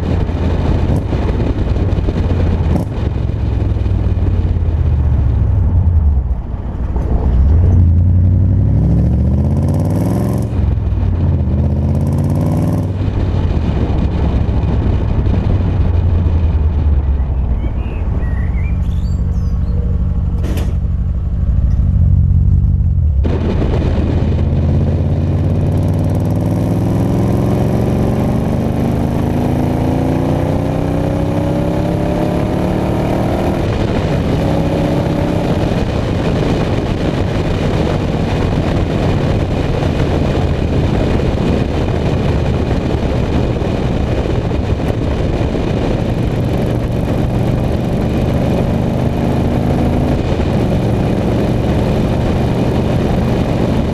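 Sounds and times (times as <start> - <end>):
car engine accelerating: 0.0 - 53.9
wind and road noise: 0.0 - 53.9.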